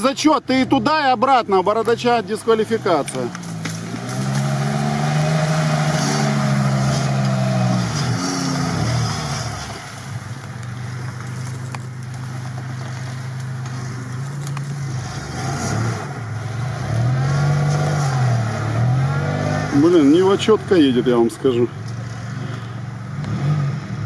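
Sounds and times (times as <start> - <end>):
car engine working hard: 0.0 - 24.0.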